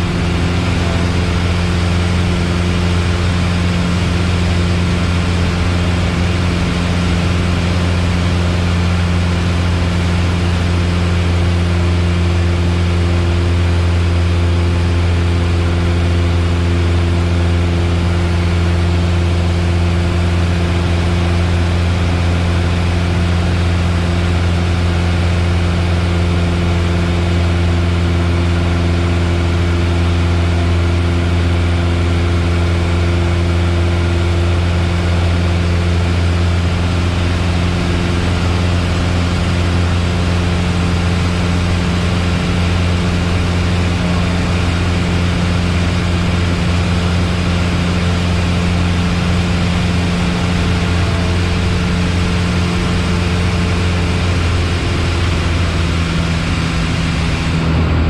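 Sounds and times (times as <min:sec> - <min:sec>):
airplane engine droning in cabin: 0:00.0 - 0:58.0.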